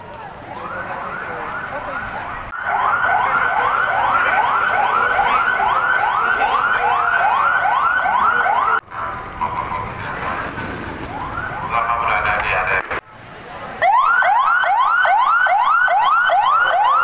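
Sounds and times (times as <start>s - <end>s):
faint distant siren: 0.0s - 12.8s, 13.8s - 17.0s
street noise: 0.0s - 17.0s
siren yelping: 0.4s - 12.7s, 13.8s - 17.0s.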